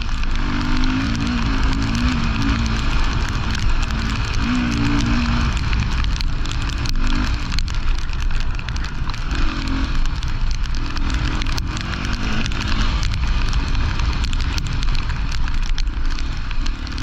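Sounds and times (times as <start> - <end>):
gravel noise: 0.0 - 17.0
motorcycle engine running: 0.0 - 17.0
wind noise on microphone: 0.0 - 17.0.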